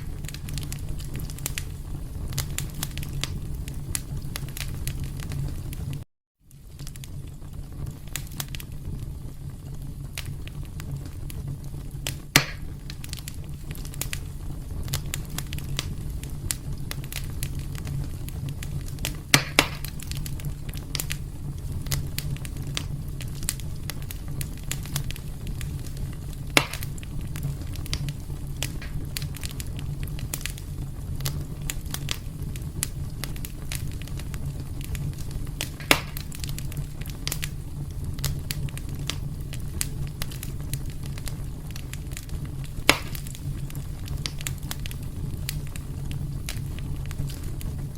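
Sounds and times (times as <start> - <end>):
fire crackling and rumbling: 0.0 - 47.9
sharp fire pops: 0.0 - 47.9.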